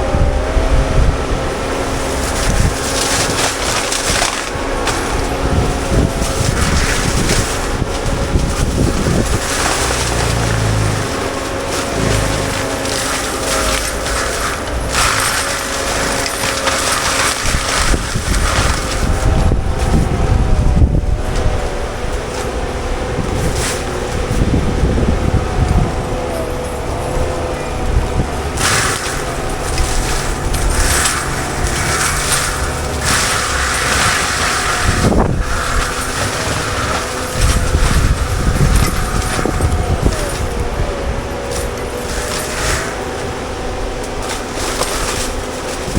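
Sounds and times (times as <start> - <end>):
drum grinding brush: 0.0 - 45.9
heavy low rumble: 0.0 - 45.9
machine engine: 0.0 - 45.9
mulching head whine: 0.0 - 45.9.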